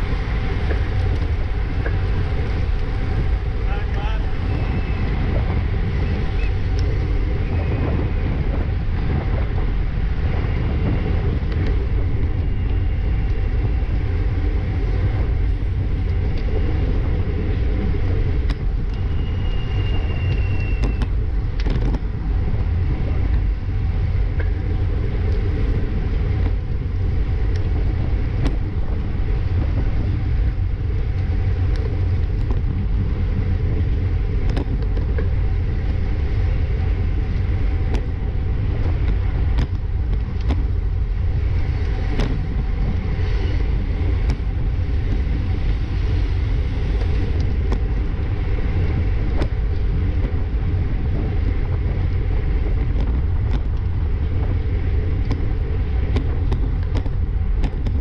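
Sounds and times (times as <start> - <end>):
bike tyres humming: 0.0 - 58.0
wind rushing on microphone: 0.0 - 58.0.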